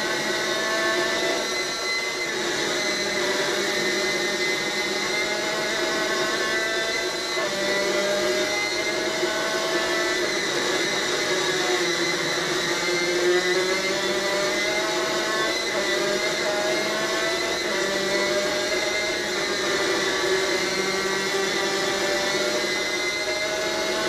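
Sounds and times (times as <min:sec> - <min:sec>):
racing kart engine: 0:00.0 - 0:01.4, 0:03.0 - 0:24.0.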